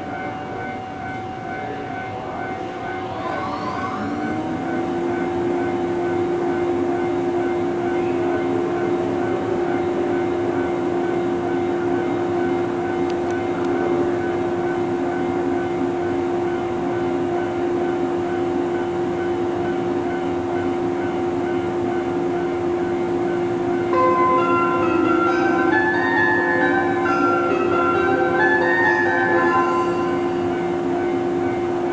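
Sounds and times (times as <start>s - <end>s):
electric train whine: 0.0s - 31.9s.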